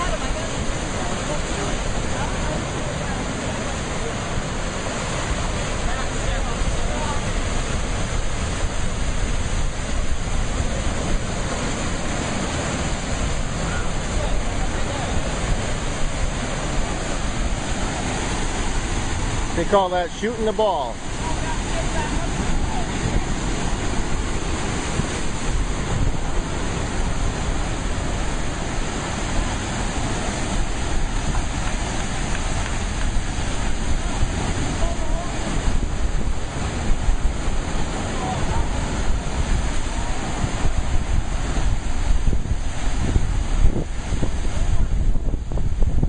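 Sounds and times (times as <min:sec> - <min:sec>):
sea surf rushing: 0:00.0 - 0:46.0
wind rumbling on microphone: 0:00.0 - 0:46.0.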